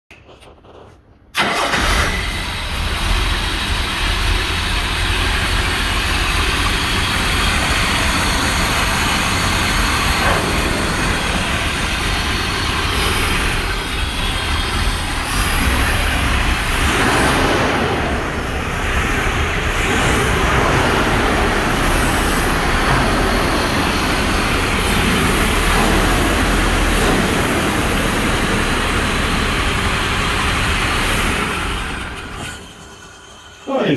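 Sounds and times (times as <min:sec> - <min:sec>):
car engine running: 0:01.7 - 0:33.9.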